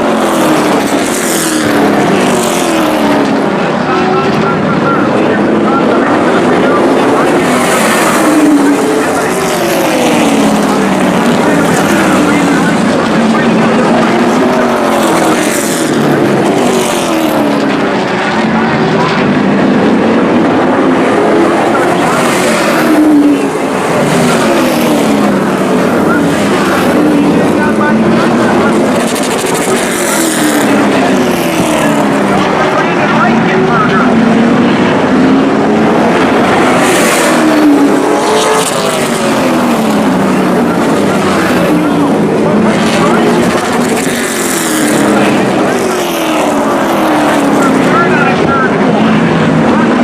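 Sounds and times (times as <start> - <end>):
race truck engines passing: 0.0 - 50.0.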